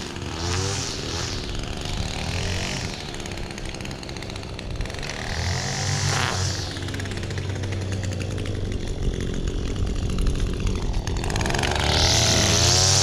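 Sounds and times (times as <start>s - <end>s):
lawn mower engine idling: 0.0s - 13.0s
string trimmer engine revving: 0.0s - 13.0s.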